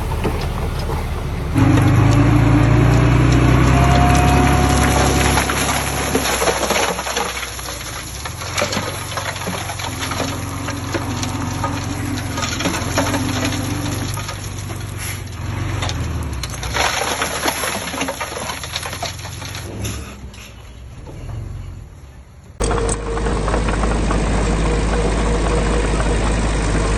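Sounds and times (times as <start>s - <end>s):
dirt and stones clattering: 0.0s - 21.7s, 22.6s - 26.9s
diesel engine running: 0.0s - 26.9s.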